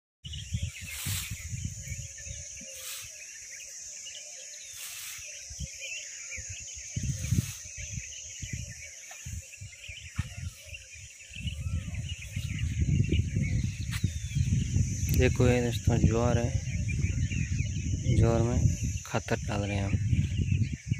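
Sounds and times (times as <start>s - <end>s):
small birds chirping: 0.2s - 20.9s
high-pitched insect drone: 0.3s - 20.9s.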